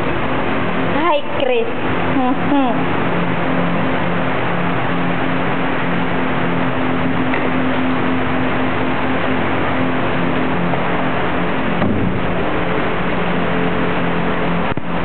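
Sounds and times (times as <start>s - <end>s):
car engine at high revs: 1.8s - 15.0s.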